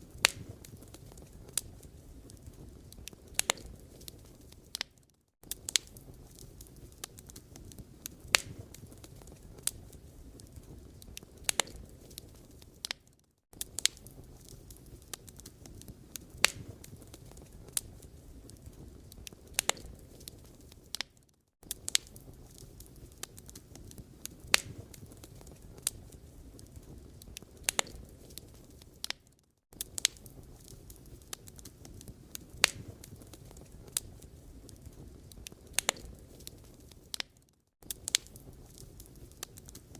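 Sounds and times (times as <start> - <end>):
firewood burning: 0.0 - 39.9
logs crackling and popping: 0.0 - 39.9.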